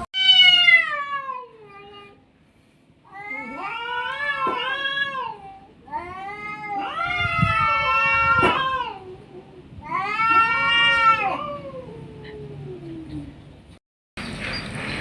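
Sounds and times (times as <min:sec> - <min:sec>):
cats yowling: 0:00.2 - 0:02.2, 0:03.1 - 0:13.3.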